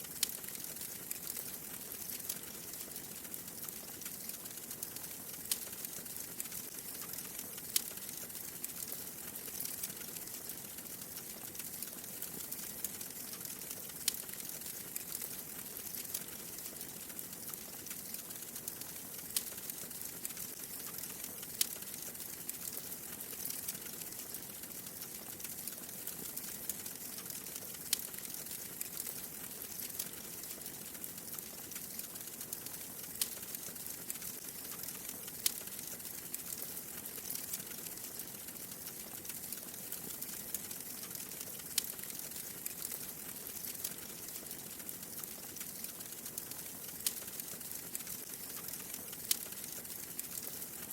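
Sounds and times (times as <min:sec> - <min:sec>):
fireplace fire crackling: 0:00.0 - 0:50.9.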